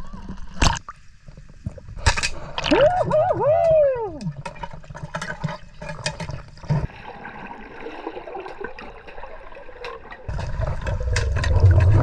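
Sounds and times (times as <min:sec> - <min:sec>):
water gurgling and sloshing: 0:00.0 - 0:12.0.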